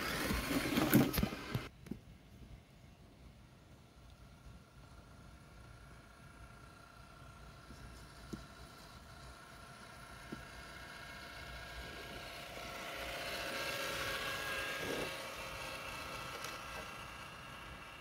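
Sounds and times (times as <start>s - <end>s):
electric motor and gears whining: 0.0s - 1.7s, 4.7s - 18.0s.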